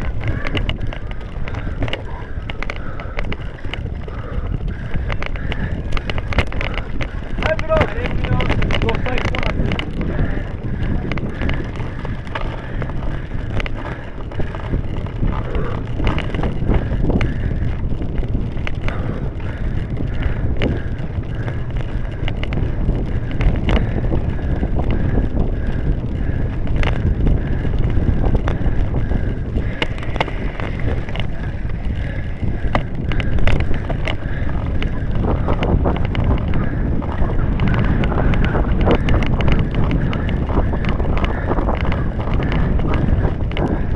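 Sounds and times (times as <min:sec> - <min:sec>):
bike and camera rattling: 0:00.0 - 0:43.9
low rumble of bike rolling: 0:00.0 - 0:43.9
wind rushing over microphone: 0:00.0 - 0:43.9.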